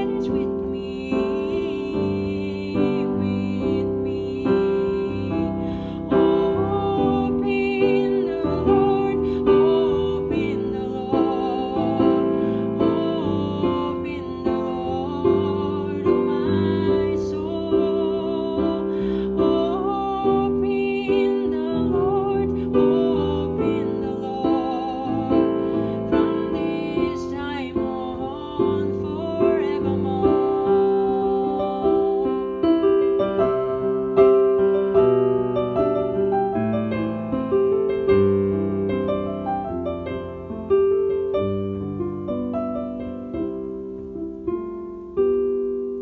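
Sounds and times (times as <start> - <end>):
slow gentle piano music: 0.0 - 46.0.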